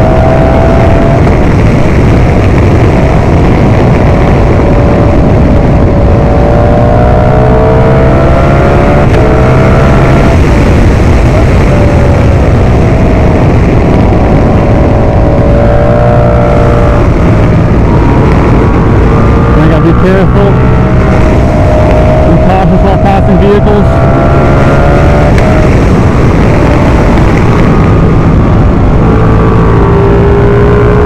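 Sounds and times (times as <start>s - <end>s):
motorcycle engine accelerating: 0.0s - 31.0s
wind rush on microphone: 0.0s - 31.0s.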